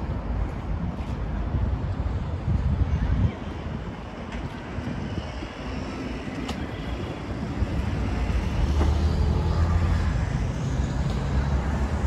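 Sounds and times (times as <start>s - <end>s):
road traffic engine rumble: 0.0s - 12.0s.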